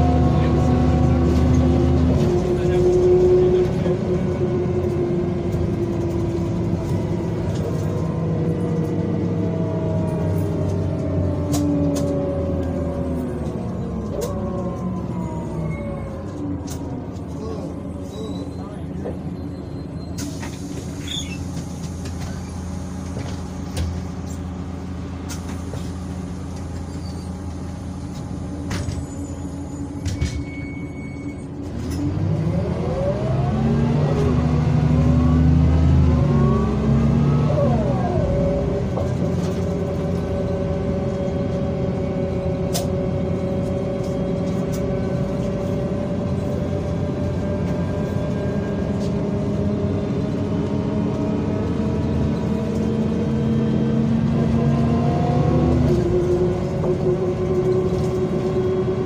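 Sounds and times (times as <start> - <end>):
bus diesel engine: 0.0 - 59.0
engine whine: 0.0 - 59.0.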